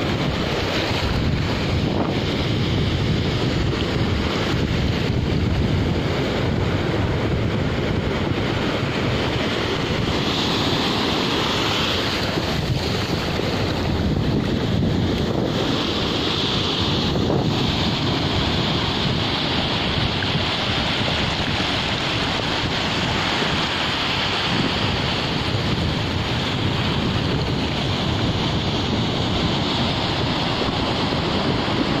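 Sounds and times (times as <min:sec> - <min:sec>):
surf washing over sand: 0:00.0 - 0:32.0
waves breaking on beach: 0:00.0 - 0:32.0
wind buffeting microphone: 0:00.0 - 0:32.0.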